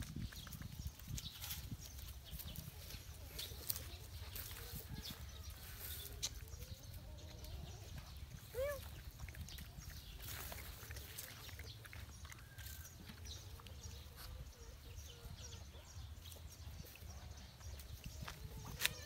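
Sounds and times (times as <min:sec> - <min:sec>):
dogs eating and drinking: 0:00.0 - 0:19.0.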